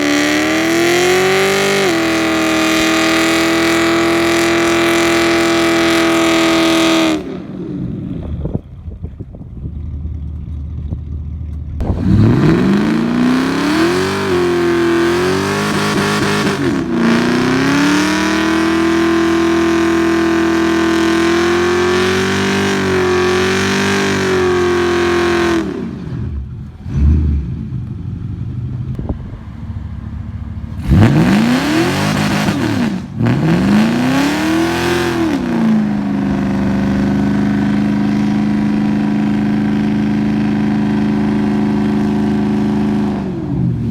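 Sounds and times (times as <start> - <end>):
car engine revving hard: 0.0 - 8.3, 11.8 - 27.9, 30.7 - 43.9.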